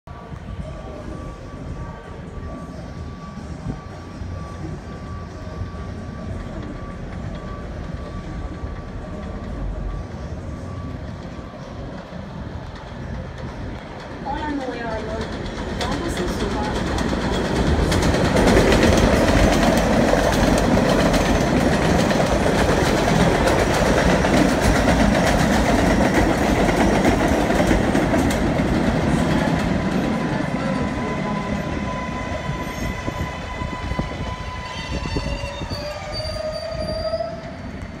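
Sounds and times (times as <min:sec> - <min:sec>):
train rumble and wheel clatter: 0:00.1 - 0:38.0.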